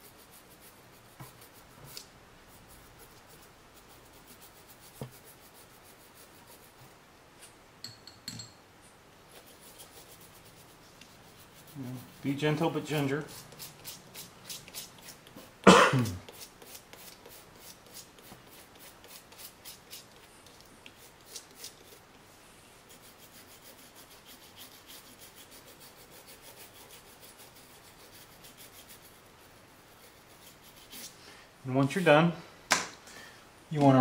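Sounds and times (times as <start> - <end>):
small brush scrubbing circuit board: 0.0 - 6.9, 9.3 - 22.2, 22.8 - 31.2.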